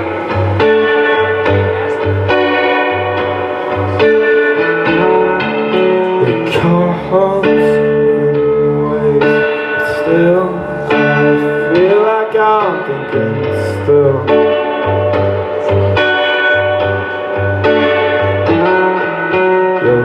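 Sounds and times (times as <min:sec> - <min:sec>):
electric guitar with bending notes: 0:00.0 - 0:20.0
live band music: 0:00.0 - 0:20.0.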